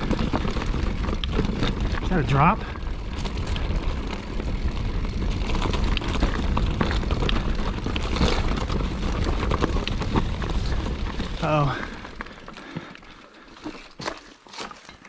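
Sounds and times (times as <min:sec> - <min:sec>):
bike rolling over rocky trail: 0:00.0 - 0:15.0
bike clicks and knocks: 0:02.9 - 0:15.0.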